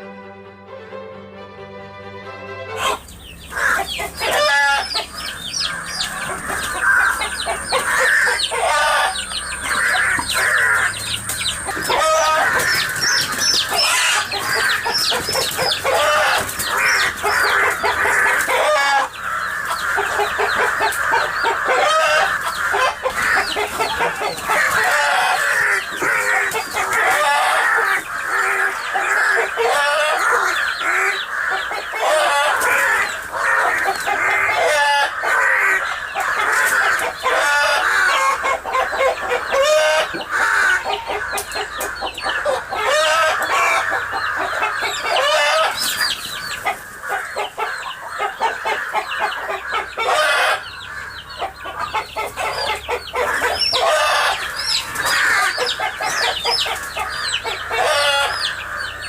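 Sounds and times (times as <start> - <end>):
chickens clucking: 2.2 - 59.0.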